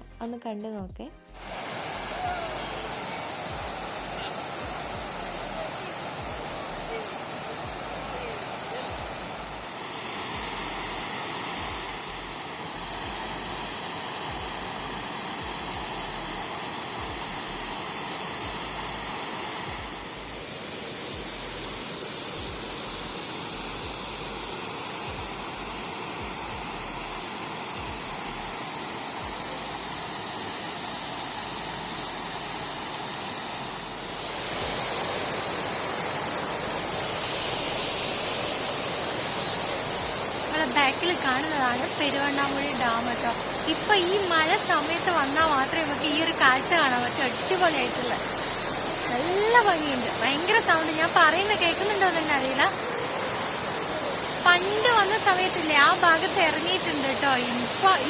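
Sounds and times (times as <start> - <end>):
water rushing through dam spillway: 1.4 - 58.0.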